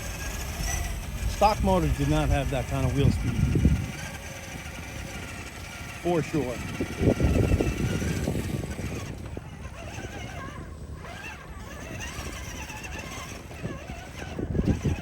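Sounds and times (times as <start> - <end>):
rc car motor whining: 0.0 - 15.0.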